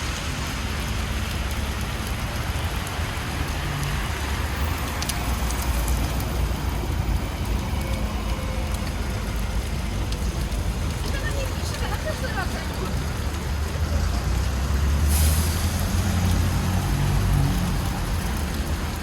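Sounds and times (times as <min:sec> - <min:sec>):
low traffic rumble: 0:00.0 - 0:19.0
rain on a street: 0:00.0 - 0:19.0.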